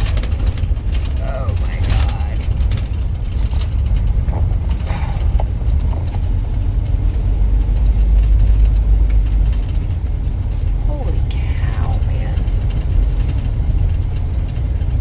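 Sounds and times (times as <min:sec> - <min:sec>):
engine and road rumble: 0:00.0 - 0:15.0
faint rattles: 0:00.0 - 0:15.0.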